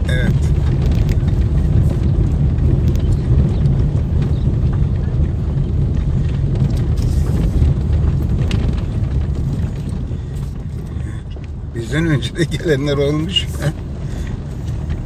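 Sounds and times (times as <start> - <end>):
tyres rumbling on paving stones: 0.0 - 15.0.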